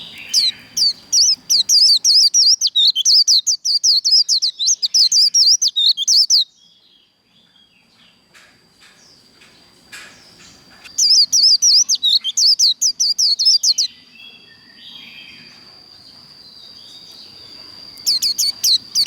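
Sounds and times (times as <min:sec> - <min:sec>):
bird singing high chirps: 0:00.0 - 0:08.1, 0:10.3 - 0:19.0.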